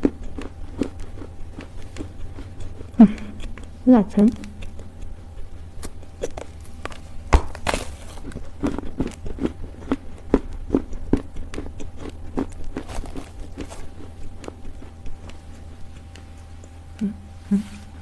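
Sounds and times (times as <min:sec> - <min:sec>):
chewing crunchy clay: 0:00.0 - 0:17.0.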